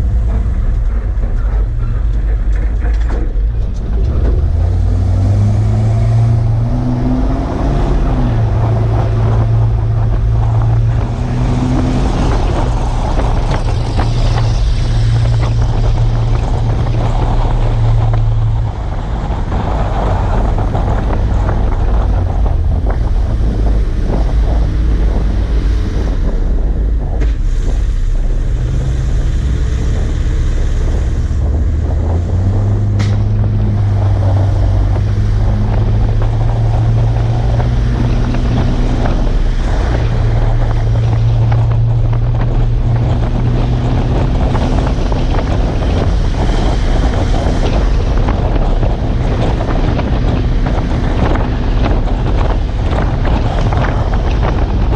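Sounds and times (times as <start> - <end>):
truck engine running: 0.0 - 54.9
wind noise on microphone: 0.0 - 54.9.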